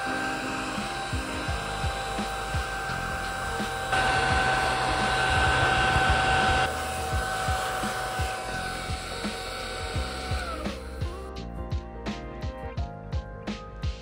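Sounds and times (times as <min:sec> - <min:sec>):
small vacuum cleaner whining: 0:00.0 - 0:11.3.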